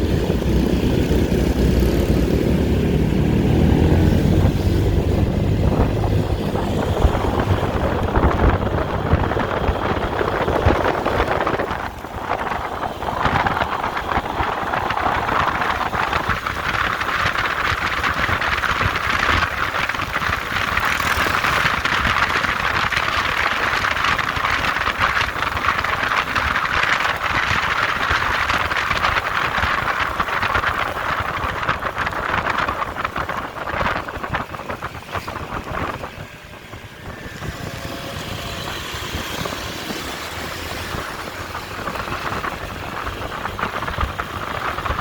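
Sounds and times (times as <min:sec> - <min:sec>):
road and wind noise: 0:00.0 - 0:45.0
vehicle engine rumble: 0:00.0 - 0:45.0.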